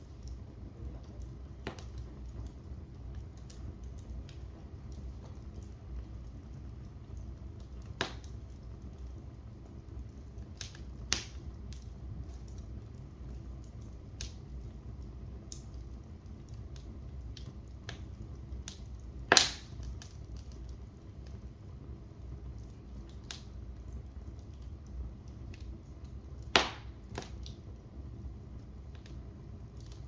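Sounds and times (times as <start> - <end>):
sharp pops of fire: 0.0 - 30.0
wood fire crackling: 0.0 - 30.0.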